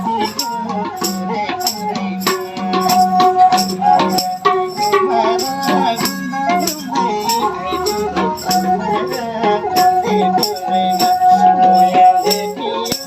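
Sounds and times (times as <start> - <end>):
rattling percussion: 0.0 - 13.0
sarangi melody: 0.0 - 13.0
steady drum beat: 0.0 - 13.0.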